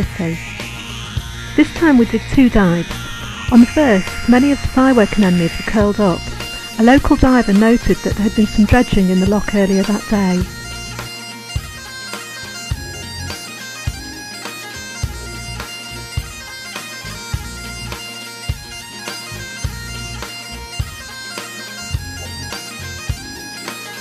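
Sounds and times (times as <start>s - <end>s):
steady drum beat: 0.0s - 23.8s
droning wind instrument notes: 0.0s - 24.0s.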